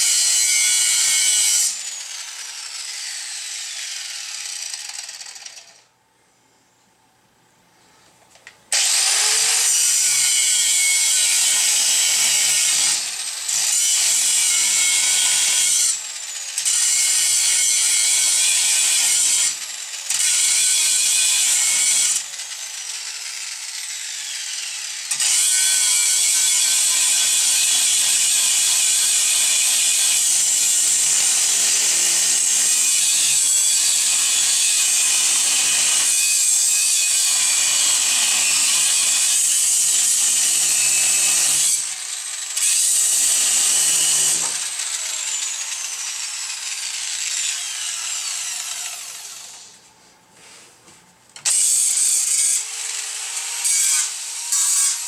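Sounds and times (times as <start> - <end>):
angle grinder grinding metal: 0.0 - 5.8, 8.7 - 49.9, 51.4 - 55.0.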